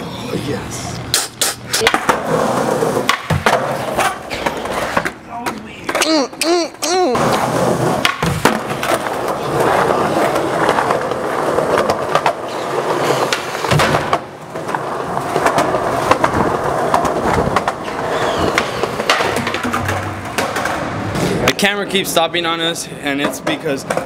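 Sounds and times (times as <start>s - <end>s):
skateboard wheels rolling on concrete: 1.8s - 6.4s, 7.1s - 24.0s.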